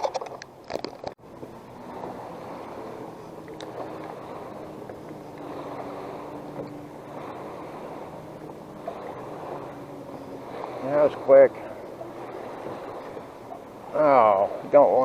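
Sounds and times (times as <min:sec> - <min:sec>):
water around a boat: 0:00.0 - 0:15.0
wind: 0:00.0 - 0:15.0.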